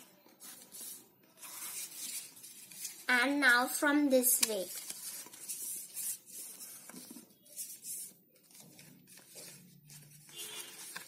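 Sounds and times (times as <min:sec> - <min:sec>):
paper rustling and crinkling: 0:00.3 - 0:03.1, 0:04.2 - 0:11.0.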